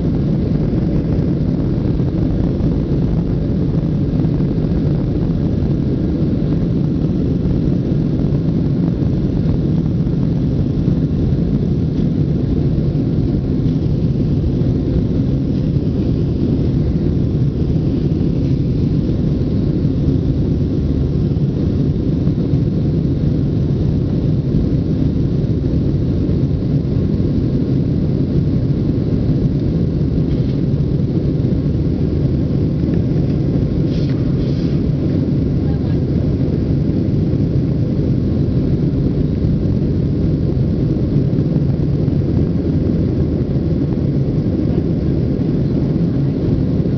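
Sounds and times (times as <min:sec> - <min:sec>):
jet engines at takeoff in cabin: 0:00.0 - 0:46.9.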